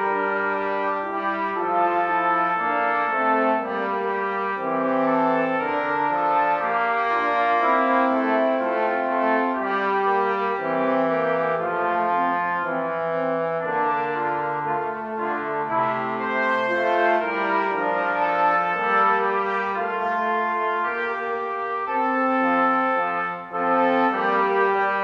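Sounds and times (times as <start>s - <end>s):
brass instruments slow held notes: 0.0s - 25.0s.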